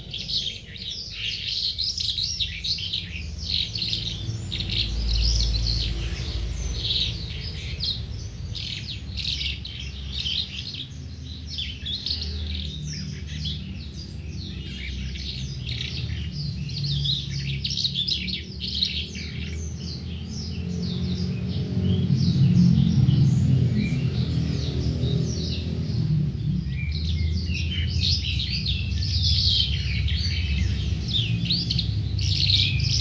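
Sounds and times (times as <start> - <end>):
lark singing chirps and trills: 0.0 - 33.0.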